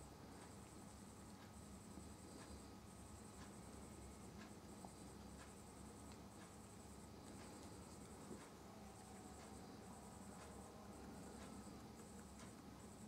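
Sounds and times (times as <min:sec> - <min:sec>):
soft clicks and rustles: 0:00.3 - 0:13.0.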